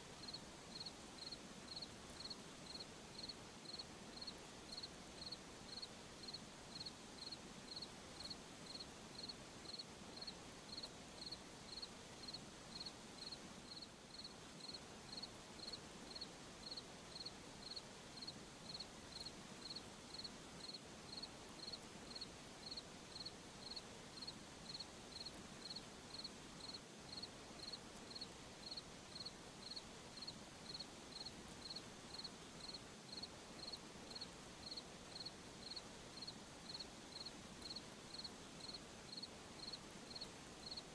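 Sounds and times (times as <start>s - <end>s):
soft background hiss: 0.0s - 40.9s
cricket chirping: 0.2s - 40.8s.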